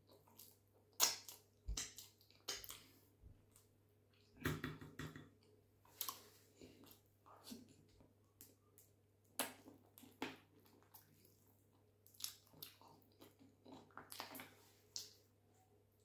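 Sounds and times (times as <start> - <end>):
fingers squishing through sauce: 0.0 - 4.4, 5.4 - 15.2
chewing and mouth smacks: 0.0 - 4.6, 5.4 - 15.3.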